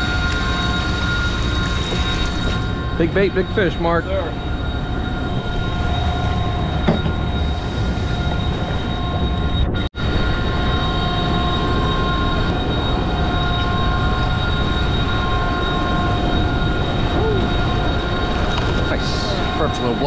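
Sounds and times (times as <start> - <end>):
machinery drone with high whine: 0.0 - 20.0.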